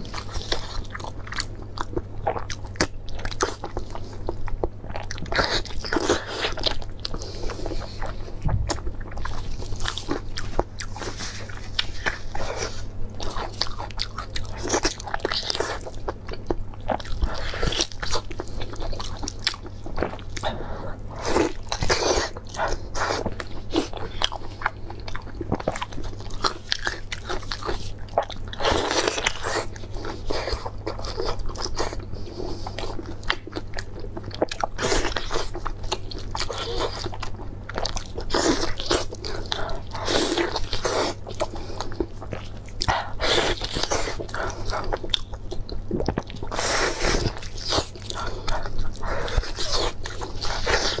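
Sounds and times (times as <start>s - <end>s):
biting and chewing meat: 0.0s - 51.0s
steady low hum: 0.0s - 51.0s.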